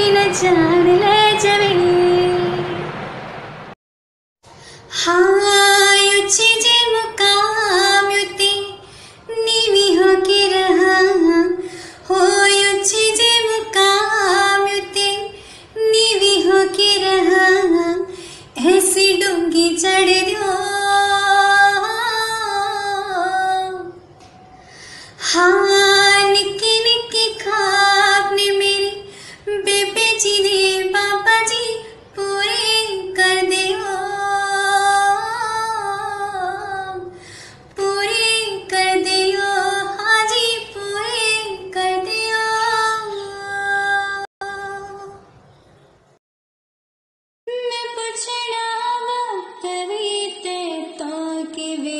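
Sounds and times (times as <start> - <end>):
woman singing unaccompanied: 0.0 - 2.8, 4.9 - 24.0, 25.2 - 45.2, 47.5 - 51.9.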